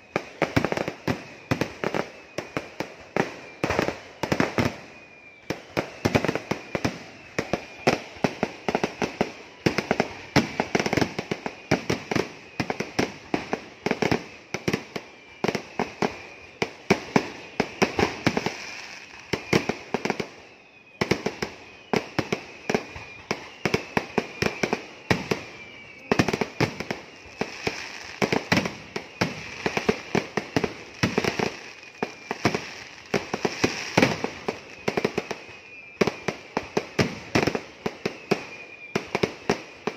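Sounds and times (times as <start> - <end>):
fireworks bangs and crackles: 0.0 - 39.9
fireworks whistle: 0.0 - 39.9.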